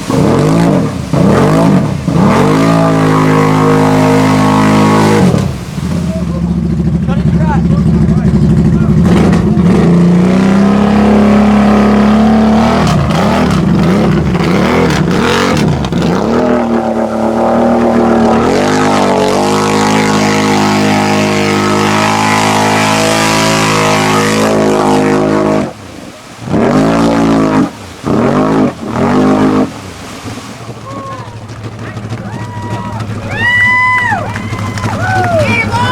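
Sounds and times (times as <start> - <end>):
atv engine revving: 0.0 - 30.0, 30.7 - 35.9.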